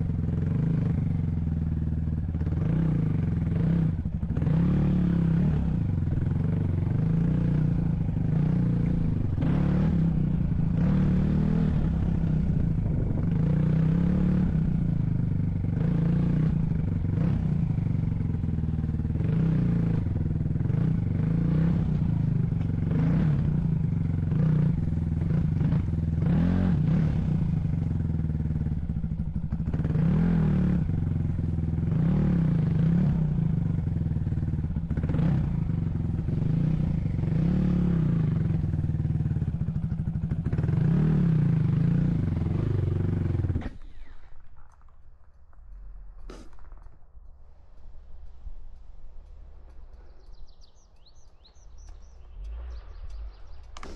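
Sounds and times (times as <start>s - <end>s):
vehicle engine running: 0.0s - 44.7s, 47.5s - 53.9s
vehicle rattling over rough ground: 0.0s - 45.3s.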